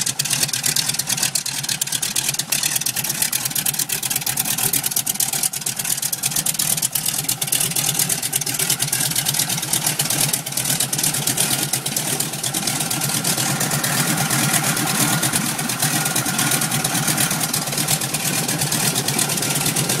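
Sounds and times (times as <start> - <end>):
radial aircraft engine running: 0.0 - 20.0.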